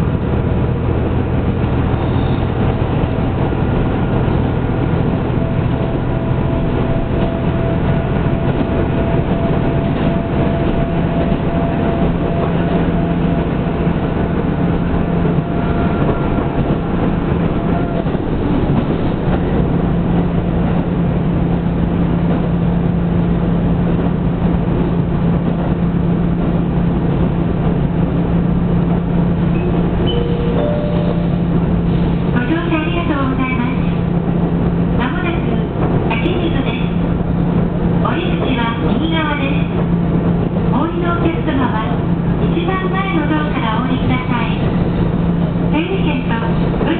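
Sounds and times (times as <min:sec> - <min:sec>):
diesel engine drone: 0:00.0 - 0:46.9
train wheels rumbling on track: 0:00.0 - 0:46.9.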